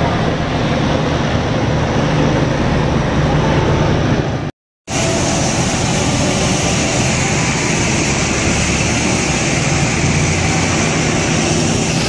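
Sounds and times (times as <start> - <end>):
diesel engine hum: 0.0 - 12.0
wind and road noise: 0.0 - 12.0.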